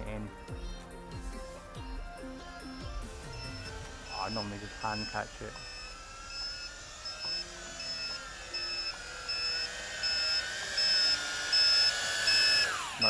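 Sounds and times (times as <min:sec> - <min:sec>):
alarm buzzer beeping: 0:00.0 - 0:13.0
quadcopter motors whining: 0:00.0 - 0:13.0.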